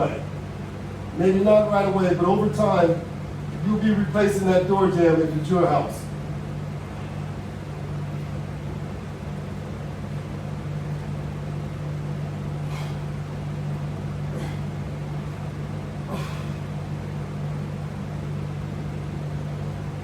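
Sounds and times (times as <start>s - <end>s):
motor hum: 0.0s - 20.0s.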